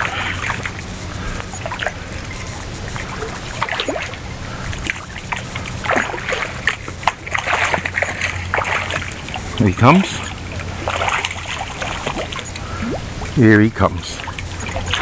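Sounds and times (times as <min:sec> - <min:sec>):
fish splashing at water surface: 0:00.0 - 0:15.0
steady low hum: 0:00.0 - 0:15.0.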